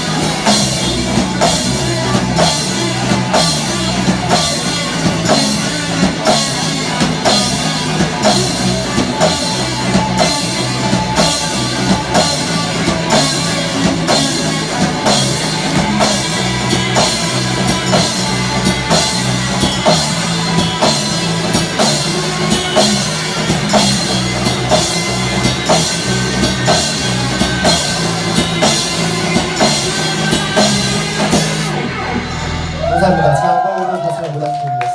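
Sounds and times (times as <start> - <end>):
drum kit beat: 0.0 - 34.7
rock band playing: 0.0 - 34.9.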